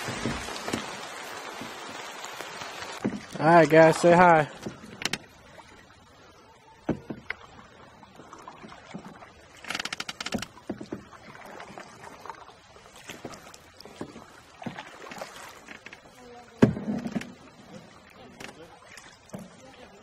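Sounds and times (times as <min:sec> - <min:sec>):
paddles knocking on canoe hull: 0:00.0 - 0:05.3, 0:06.8 - 0:12.4, 0:13.0 - 0:18.6
paddles splashing in water: 0:00.0 - 0:20.0.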